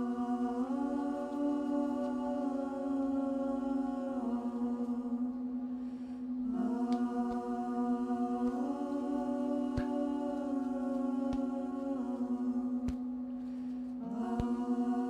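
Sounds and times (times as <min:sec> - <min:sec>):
ambient choir-like drone music: 0:00.0 - 0:15.0.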